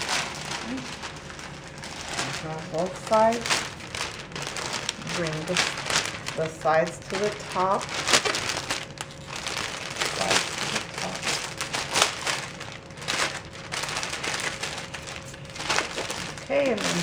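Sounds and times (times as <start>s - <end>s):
cellophane crinkling: 0.0s - 17.0s.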